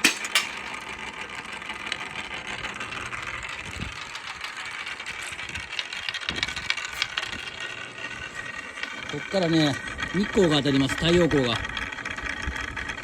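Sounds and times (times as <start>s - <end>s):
marble rolling on wooden ramp: 0.0s - 13.0s.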